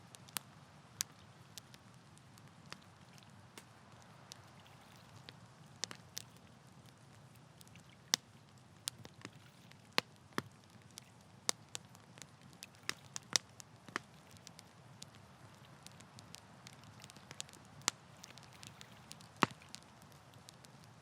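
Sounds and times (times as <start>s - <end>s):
campfire flame rumble: 0.0s - 21.0s
fire crackles and pops: 0.0s - 21.0s.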